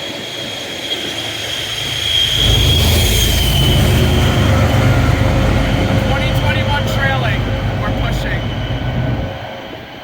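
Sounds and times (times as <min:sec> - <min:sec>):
rail noise: 0:00.0 - 0:10.0
train wheel squeal: 0:00.0 - 0:10.0
diesel locomotive rumble: 0:00.5 - 0:10.0.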